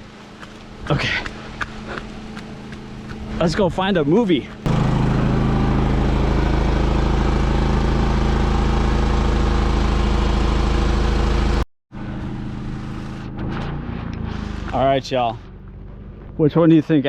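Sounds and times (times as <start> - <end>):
atv engine running: 0.2 - 13.4, 14.1 - 17.0.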